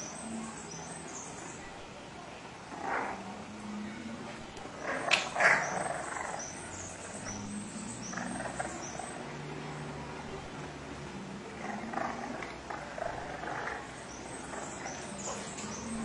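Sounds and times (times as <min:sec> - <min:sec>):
puppies growling and grunting: 0:02.7 - 0:16.0.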